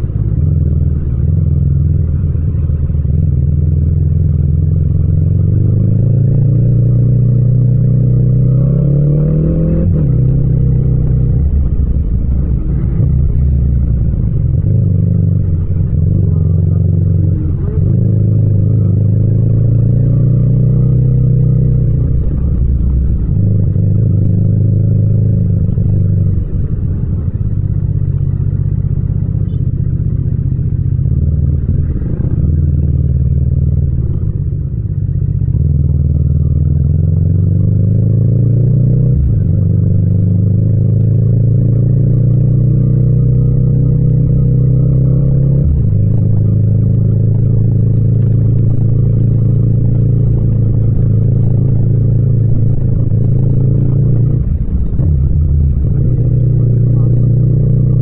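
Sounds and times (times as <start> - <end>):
motorcycle engine running at low revs: 0.0 - 58.0.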